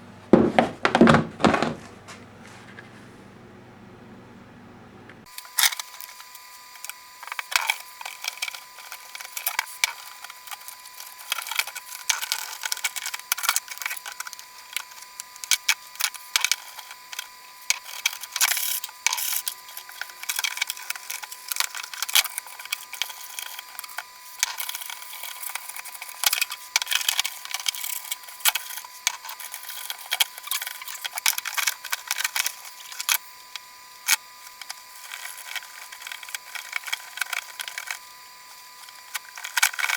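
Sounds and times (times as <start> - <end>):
scrubbing motorcycle parts: 5.8 - 39.9.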